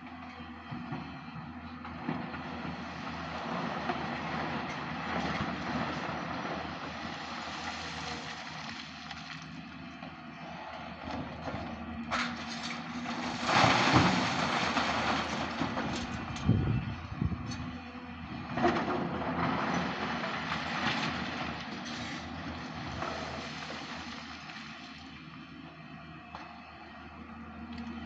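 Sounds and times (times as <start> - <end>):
heavy machinery engine under load: 0.1 - 28.0.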